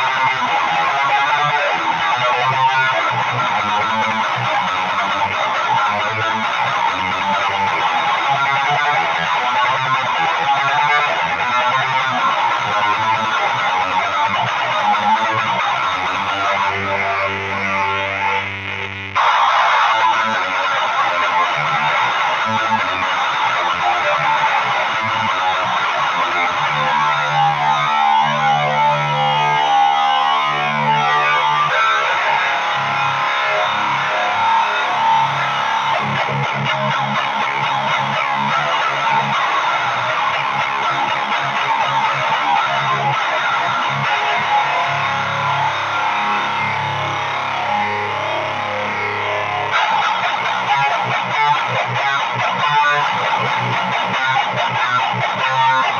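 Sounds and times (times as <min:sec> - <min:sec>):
distorted electric guitar riffing: 0:00.0 - 0:55.9.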